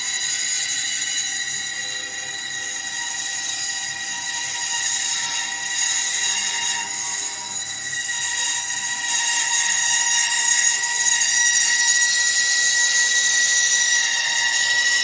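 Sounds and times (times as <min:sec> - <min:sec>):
bandsaw cutting wood: 0:01.7 - 0:15.0.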